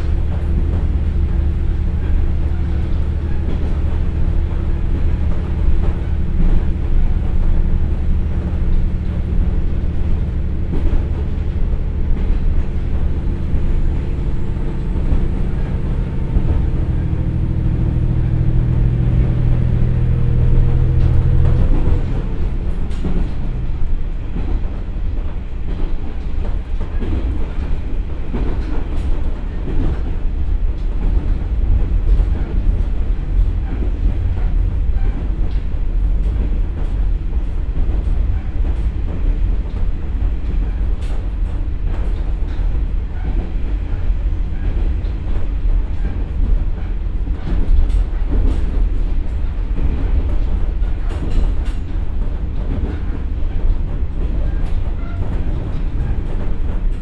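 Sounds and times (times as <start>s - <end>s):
rail-joint clicks: 0.0s - 57.0s
train diesel engine pulling: 0.0s - 57.0s
wheel and rail noise: 0.0s - 57.0s.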